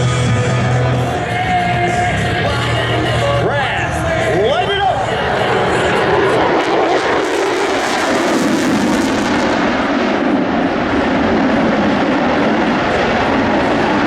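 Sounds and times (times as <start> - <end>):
airplane engine drone: 0.0 - 14.0.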